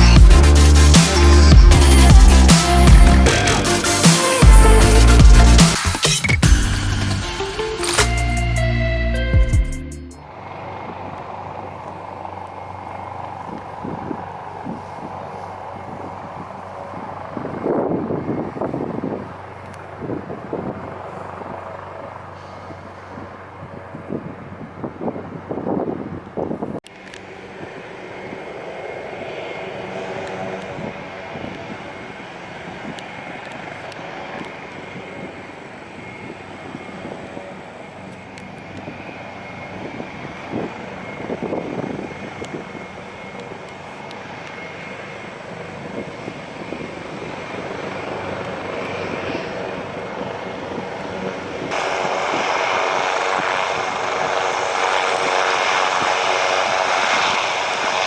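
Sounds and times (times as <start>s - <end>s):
jet engines rushing and whining: 0.0s - 8.7s, 10.1s - 58.0s.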